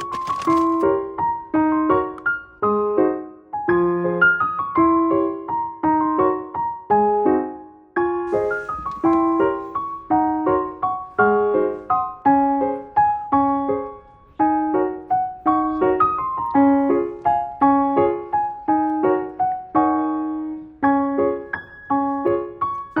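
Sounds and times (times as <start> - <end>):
piano tune: 0.0 - 23.0.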